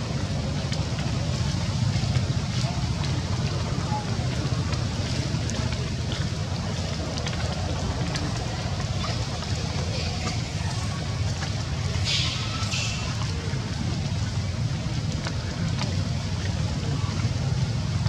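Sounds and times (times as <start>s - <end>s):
running stream water: 0.0s - 18.0s.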